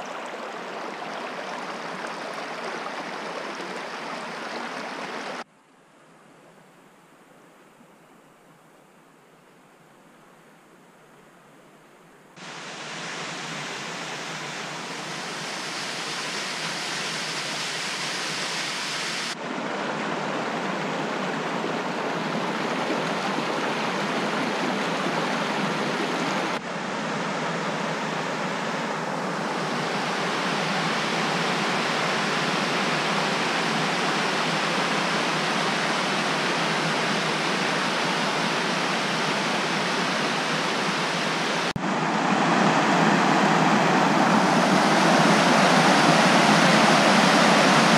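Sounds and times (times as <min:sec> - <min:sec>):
water rushing over rocks: 0:00.0 - 0:05.5, 0:12.4 - 0:47.9.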